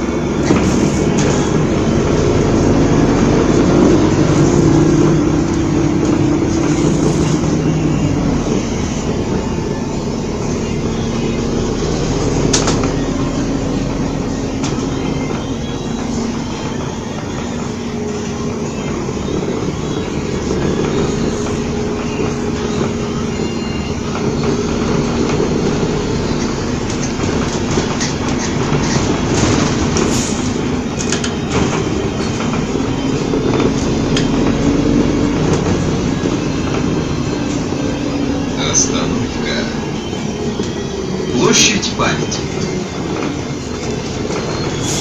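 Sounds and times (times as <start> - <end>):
bus engine droning: 0.0 - 45.0.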